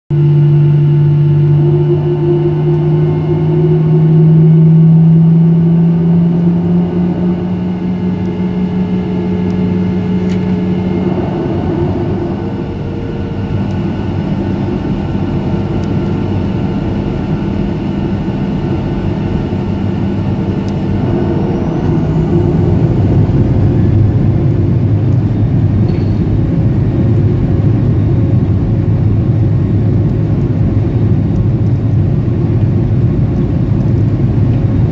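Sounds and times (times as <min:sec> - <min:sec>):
jet engines heard from cabin: 0:00.1 - 0:34.9.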